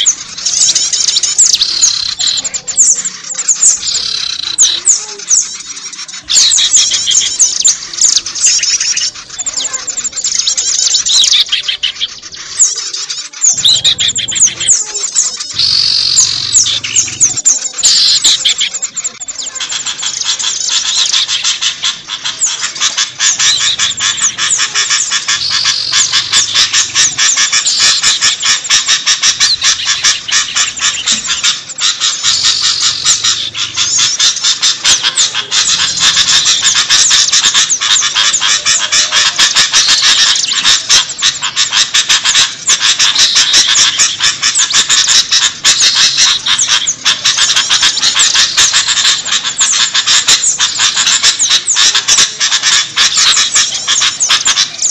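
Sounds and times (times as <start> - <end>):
small birds chirping and chattering: 0.0 - 54.9.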